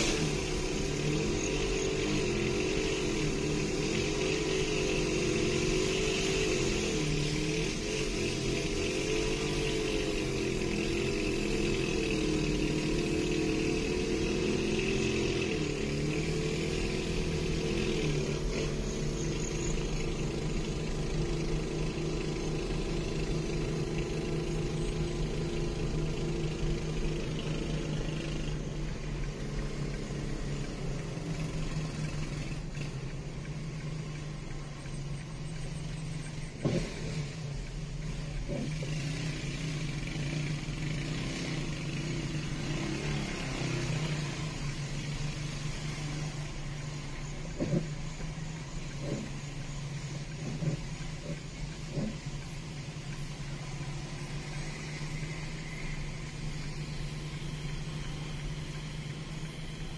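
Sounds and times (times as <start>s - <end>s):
motorcycle engine running under load: 0.0s - 59.9s
road noise: 0.0s - 59.9s.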